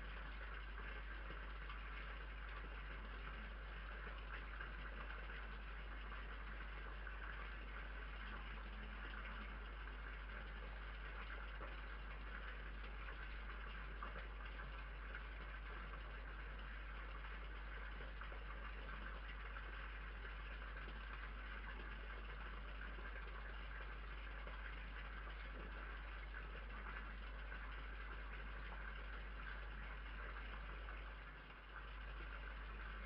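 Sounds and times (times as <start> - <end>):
microphone hiss and low hum: 0.0 - 33.0.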